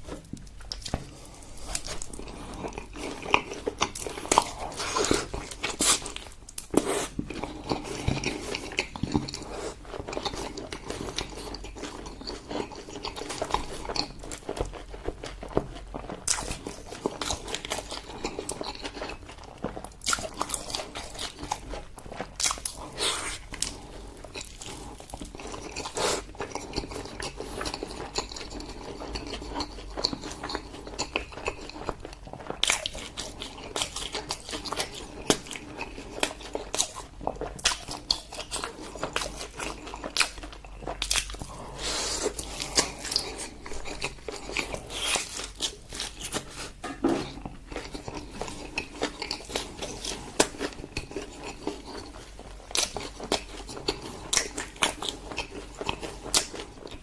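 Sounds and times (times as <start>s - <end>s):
person biting and chewing food: 0.0s - 57.0s.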